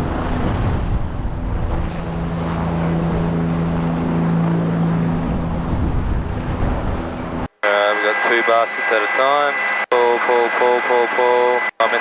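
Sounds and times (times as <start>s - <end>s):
helicopter engine and rotor: 2.0s - 12.0s.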